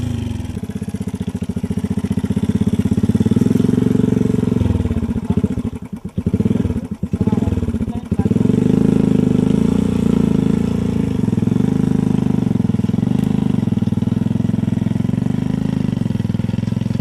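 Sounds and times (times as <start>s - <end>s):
motorcycle engine exhaust pulses: 0.0s - 17.0s.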